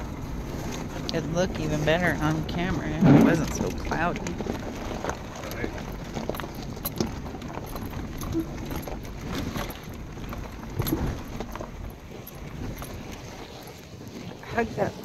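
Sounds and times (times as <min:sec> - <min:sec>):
truck rumbling on dirt road: 0:00.0 - 0:15.0
tyres crunching on stones: 0:02.3 - 0:14.4.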